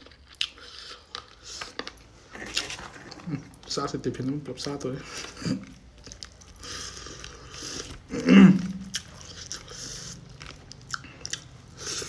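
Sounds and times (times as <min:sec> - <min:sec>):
person chewing: 0:00.0 - 0:03.7, 0:04.6 - 0:12.0.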